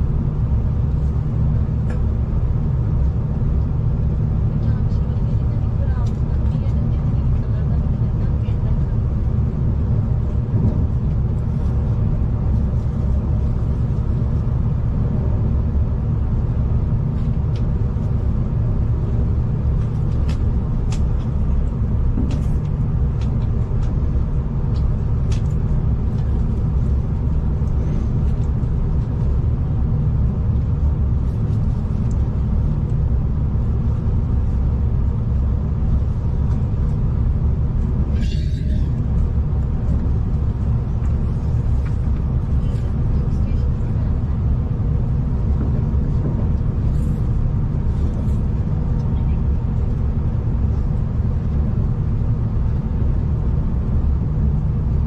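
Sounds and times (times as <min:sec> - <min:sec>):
train rumble from inside: 0:00.0 - 0:55.0.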